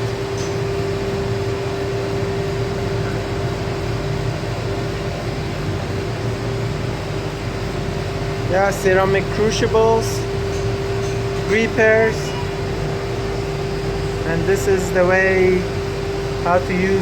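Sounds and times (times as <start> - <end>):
fan whirring hum: 0.0 - 17.0.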